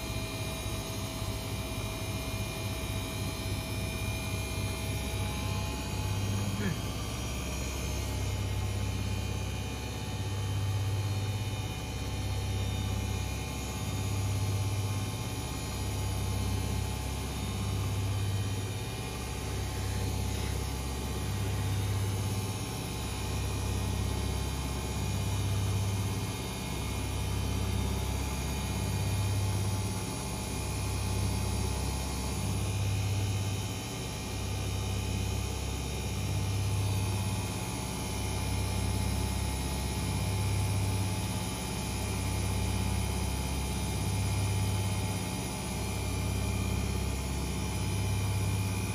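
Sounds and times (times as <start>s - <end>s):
constant whirring noise: 0.0s - 48.9s
washing machines humming: 0.0s - 48.9s.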